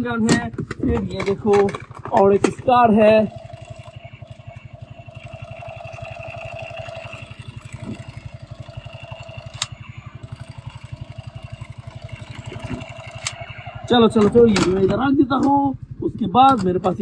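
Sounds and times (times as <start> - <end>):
steady whine: 0.0 - 17.0
toy rifle buzzing rattle: 0.6 - 15.0.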